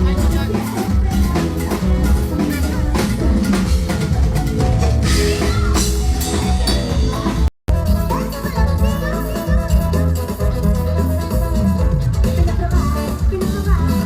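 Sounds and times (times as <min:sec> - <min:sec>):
cumbia band instrumental: 0:00.0 - 0:14.0.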